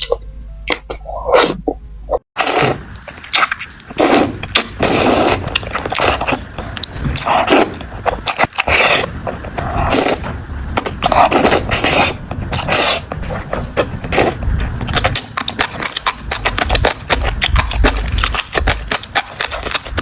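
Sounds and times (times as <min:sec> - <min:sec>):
person chewing food: 0:02.4 - 0:20.0.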